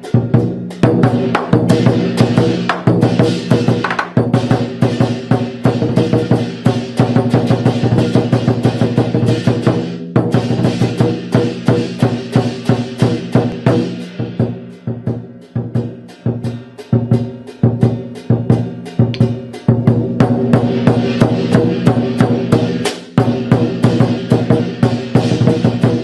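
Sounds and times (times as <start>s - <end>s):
percussion music with drums: 0.0s - 26.0s
ringing metallic percussion: 0.0s - 26.0s.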